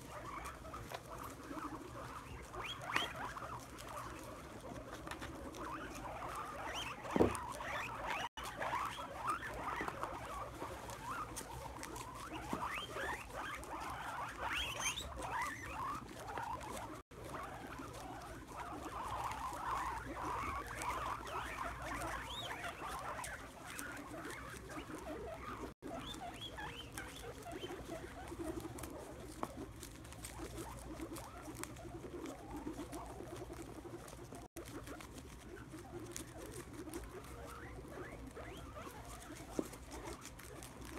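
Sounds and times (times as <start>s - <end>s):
chewing and shuffling in shavings: 0.0s - 40.9s
guinea pigs squeaking: 0.0s - 40.9s.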